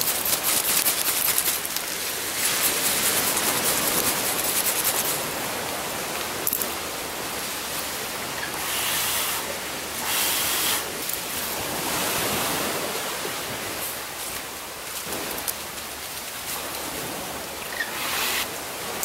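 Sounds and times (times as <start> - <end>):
ocean surf: 0.0 - 19.0.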